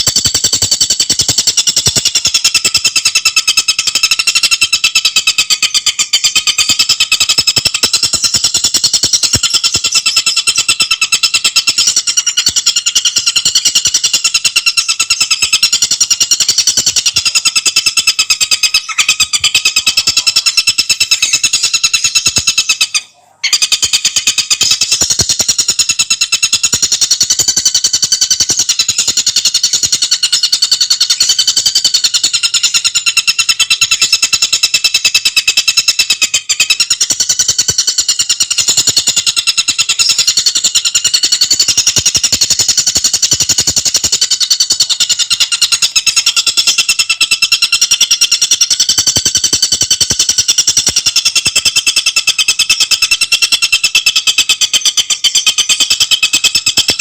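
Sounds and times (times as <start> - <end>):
bird singing rapid trill: 0.0 - 57.0.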